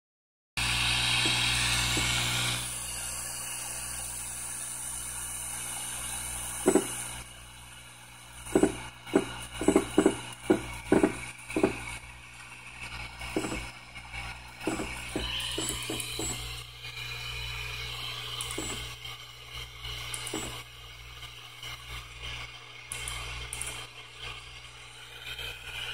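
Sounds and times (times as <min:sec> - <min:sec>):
steady mechanical hum: 0:00.6 - 0:25.9
stepper motors buzzing: 0:00.6 - 0:25.9.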